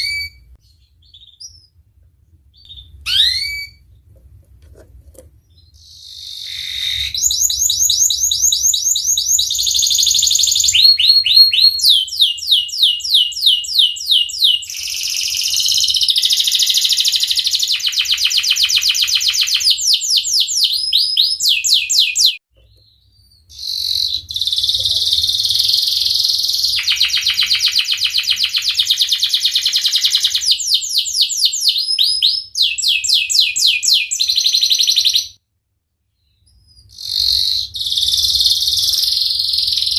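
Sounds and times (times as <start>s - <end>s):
canary singing trills: 0.0s - 1.8s, 2.5s - 4.0s, 5.4s - 35.4s, 36.2s - 39.9s.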